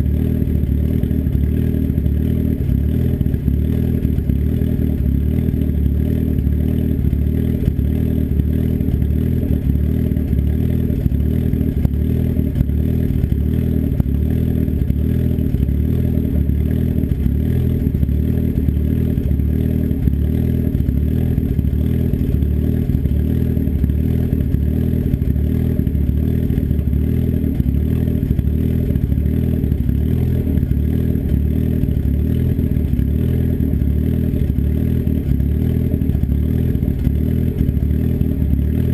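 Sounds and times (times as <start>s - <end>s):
loud engine exhaust idling: 0.0s - 38.9s.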